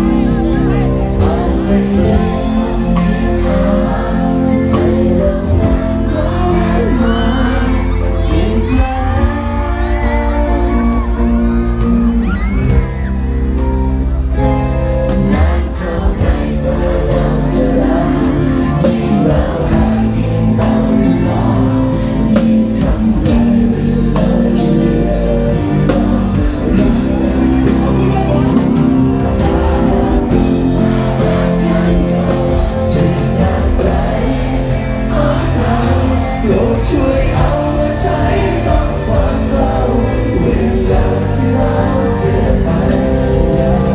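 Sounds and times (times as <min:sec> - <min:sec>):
live rock band playing: 0:00.0 - 0:43.9
person singing: 0:00.0 - 0:43.9.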